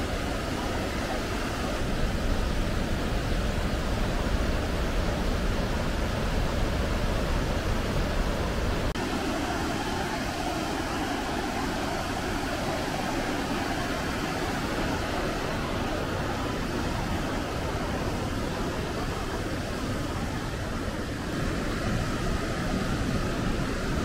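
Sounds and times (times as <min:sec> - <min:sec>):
turbulent white water rushing: 0:00.0 - 0:24.0.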